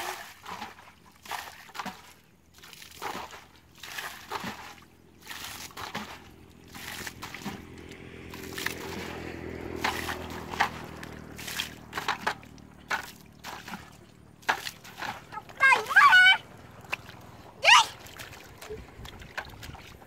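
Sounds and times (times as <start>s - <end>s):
bucket dipping into water: 0.0s - 15.9s, 16.8s - 17.3s, 18.0s - 20.0s
water sloshing and splashing: 0.0s - 20.0s.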